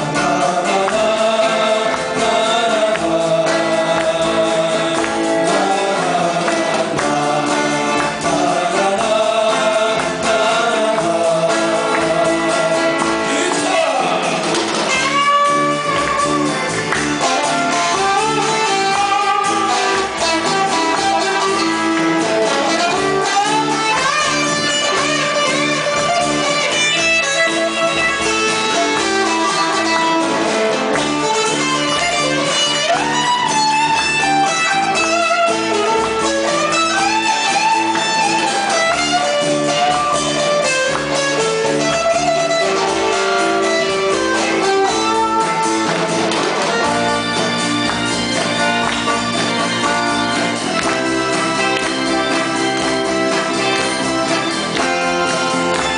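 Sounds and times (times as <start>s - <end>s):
guitar melody with bending notes: 0.0s - 55.9s
live band playing: 0.0s - 55.9s.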